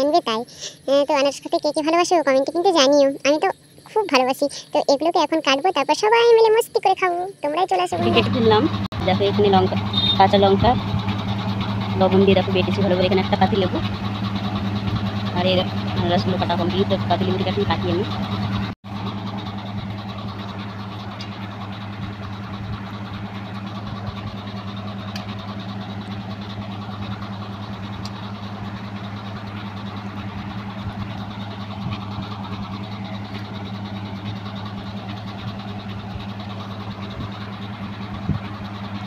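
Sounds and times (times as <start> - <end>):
electric fans humming: 0.0 - 39.0.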